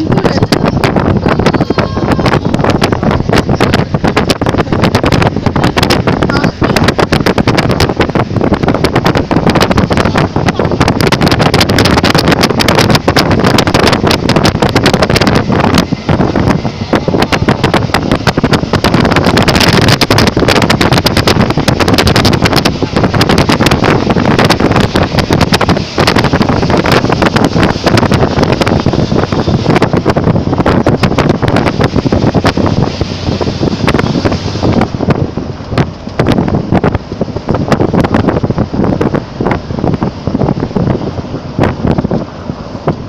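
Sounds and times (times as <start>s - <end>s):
road and vehicle noise: 0.0s - 43.0s
wind buffeting microphone: 0.0s - 43.0s.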